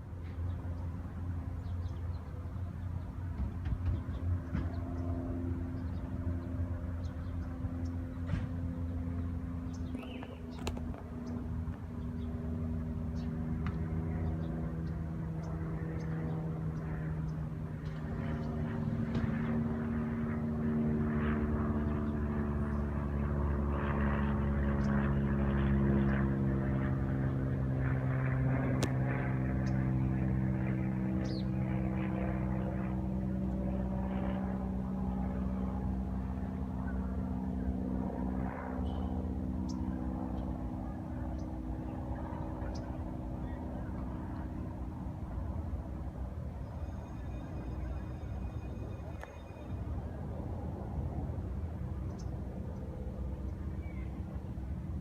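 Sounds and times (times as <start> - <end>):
motor engine humming: 0.0 - 55.0.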